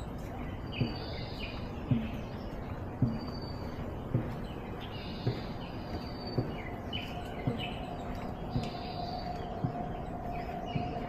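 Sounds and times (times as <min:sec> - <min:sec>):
footsteps walking: 0:00.0 - 0:11.0
small birds chirping: 0:00.0 - 0:11.0
steady outdoor hiss: 0:00.0 - 0:11.0.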